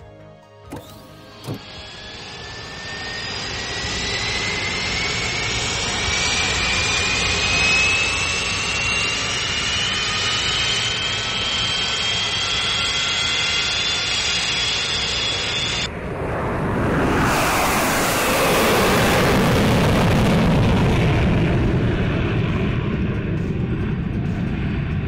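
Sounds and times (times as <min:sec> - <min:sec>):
aircraft engine roaring: 0:00.7 - 0:25.0.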